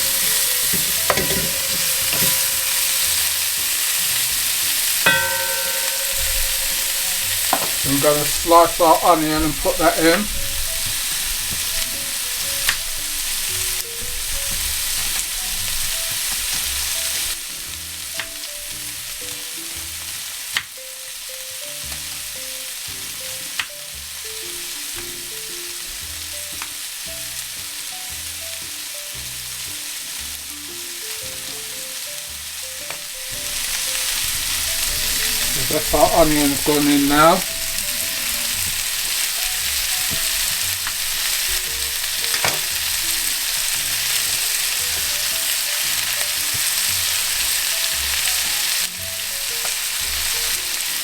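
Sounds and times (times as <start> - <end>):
duck sizzling in a pot: 0.0 - 51.0.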